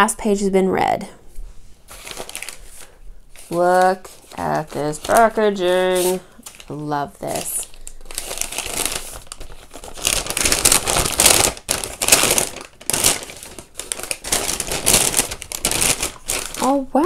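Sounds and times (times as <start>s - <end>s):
paper crinkling and rustling: 1.9s - 17.0s.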